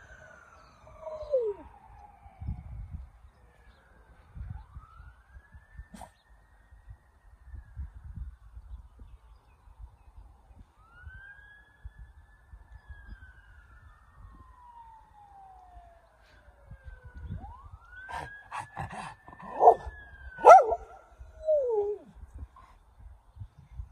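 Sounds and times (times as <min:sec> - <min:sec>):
faint police siren wailing: 0:00.0 - 0:23.2.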